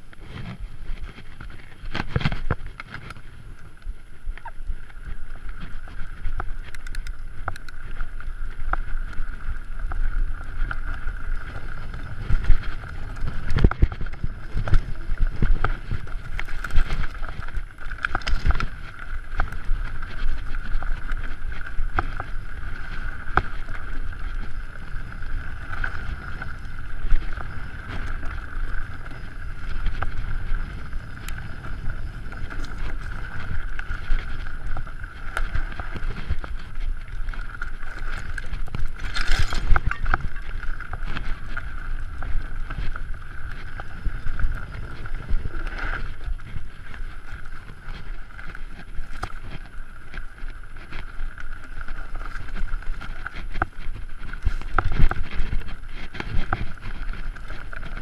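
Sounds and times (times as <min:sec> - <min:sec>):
bike rattling over bumps: 0:00.0 - 0:58.0
wind buffeting microphone: 0:00.0 - 0:58.0.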